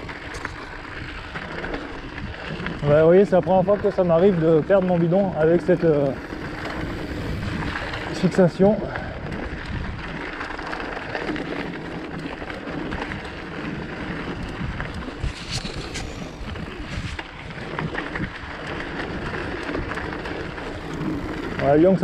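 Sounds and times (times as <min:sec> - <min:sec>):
bike rattling: 0:00.0 - 0:22.0
tyres crunching over gravel: 0:00.0 - 0:22.0
wind on microphone: 0:00.0 - 0:22.0.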